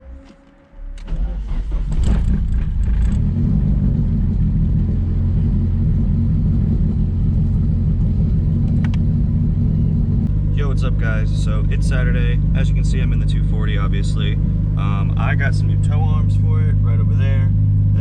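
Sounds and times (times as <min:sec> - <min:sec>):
car engine running: 0:01.0 - 0:18.0.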